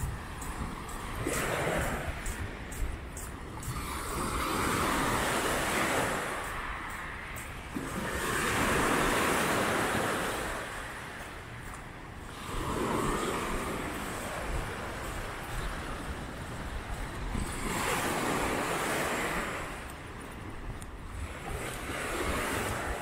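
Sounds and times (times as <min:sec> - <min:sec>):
small waves washing ashore: 0:00.0 - 0:23.0
wind rumble on microphone: 0:00.0 - 0:23.0.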